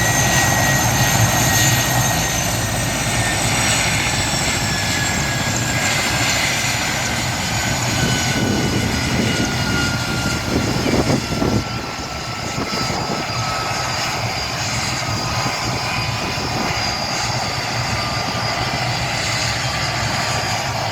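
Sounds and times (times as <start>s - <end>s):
helicopter rotor beat: 0.0s - 20.9s
helicopter turbine whine: 0.0s - 20.9s.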